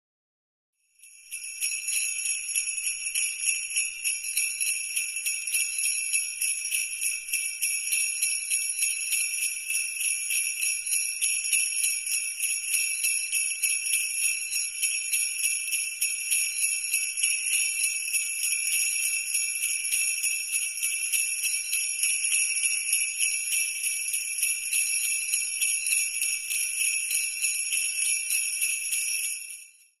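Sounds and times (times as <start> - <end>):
sleigh bells shaken: 0.9 - 30.0.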